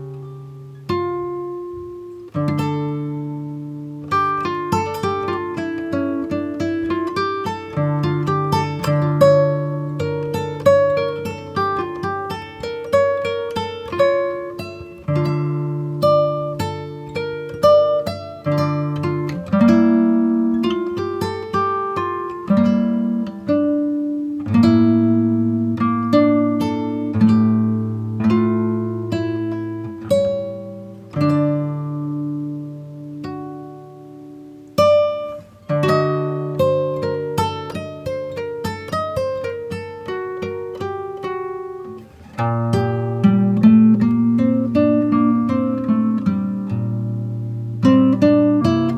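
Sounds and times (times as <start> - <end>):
plucked acoustic guitar melody: 0.0 - 48.9.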